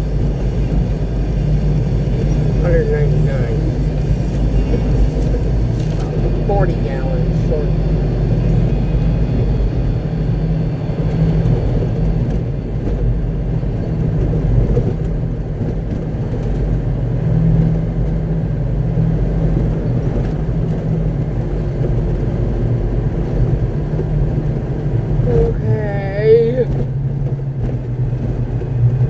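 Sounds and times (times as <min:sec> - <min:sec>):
truck engine drone: 0:00.0 - 0:29.0.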